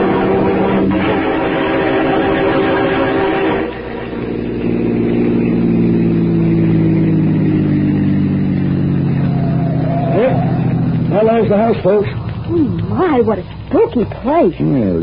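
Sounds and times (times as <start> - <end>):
car engine slowing down: 0.0 - 15.0.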